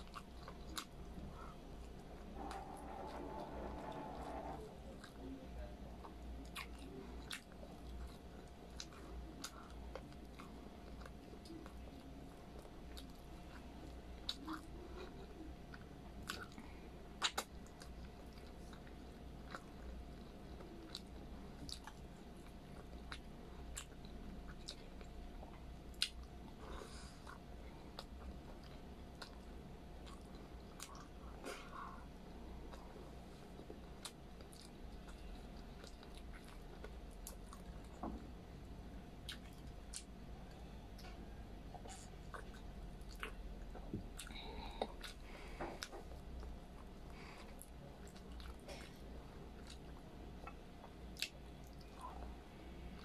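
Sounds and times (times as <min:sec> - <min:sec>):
chewing and mouth sounds: 0:00.0 - 0:53.0
faint steady hum: 0:00.0 - 0:53.0.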